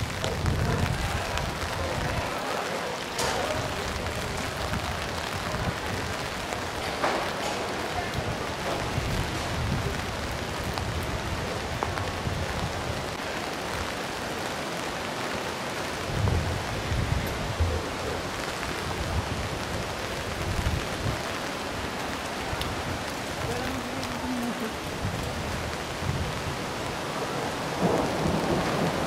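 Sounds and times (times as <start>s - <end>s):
rain on cobblestones: 0.0s - 29.0s.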